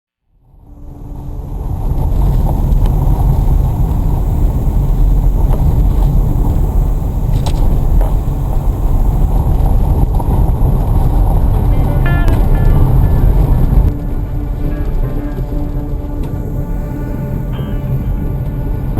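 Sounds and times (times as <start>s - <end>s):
engine and tyres rumbling: 0.4s - 18.9s.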